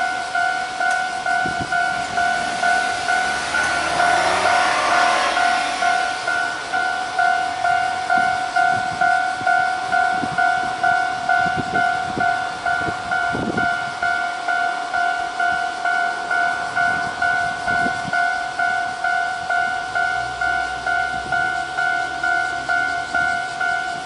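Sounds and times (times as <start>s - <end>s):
level-crossing electronic bell: 0.0s - 24.0s.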